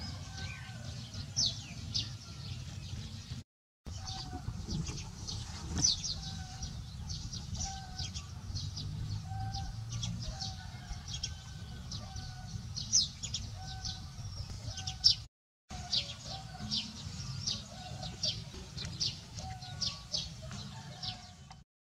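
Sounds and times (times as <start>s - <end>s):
birds chirping: 0.0s - 21.6s.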